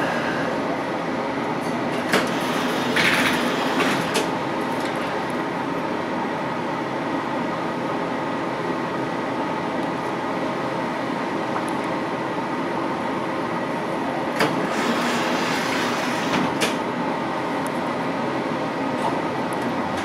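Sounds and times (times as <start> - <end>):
light-rail car hum: 0.0 - 20.0.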